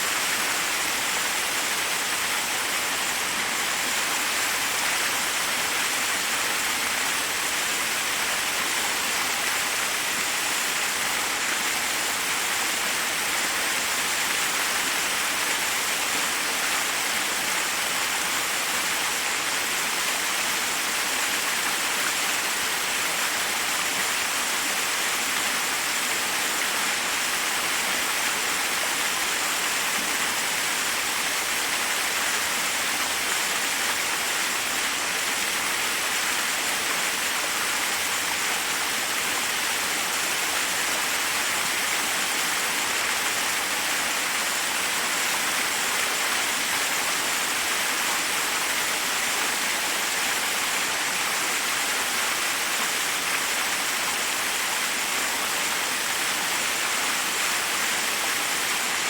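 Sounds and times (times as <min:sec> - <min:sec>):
waterfall rushing over rocks: 0:00.0 - 0:59.0.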